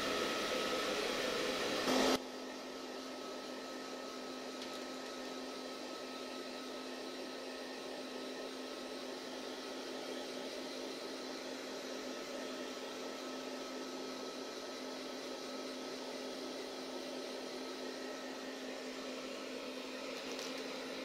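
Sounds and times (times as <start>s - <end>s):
hair dryer blowing: 0.0s - 21.0s.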